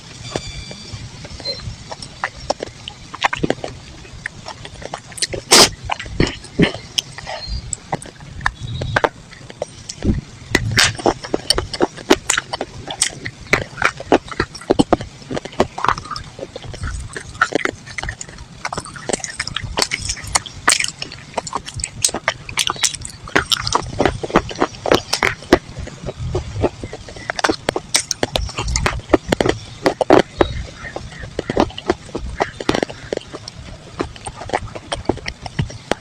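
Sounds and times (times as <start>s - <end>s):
chalk and clay crunching: 1.2s - 36.0s.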